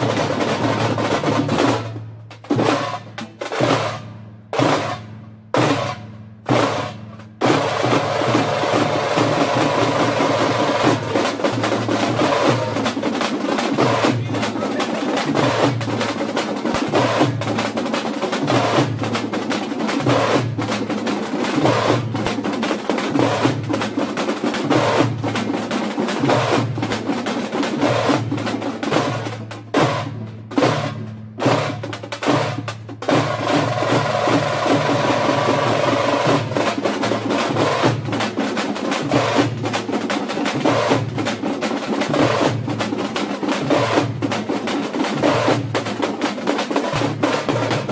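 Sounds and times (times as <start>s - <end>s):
frame drums and barrel drums: 0.0s - 47.9s.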